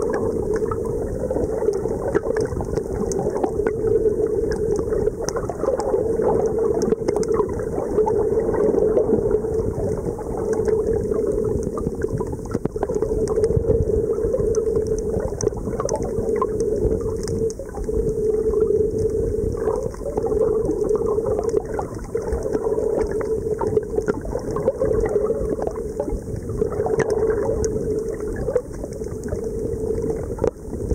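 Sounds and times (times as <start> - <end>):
faint crackling clicks: 0.0 - 30.9
low underwater drone: 0.0 - 30.9
rumble of moving water: 0.0 - 30.9.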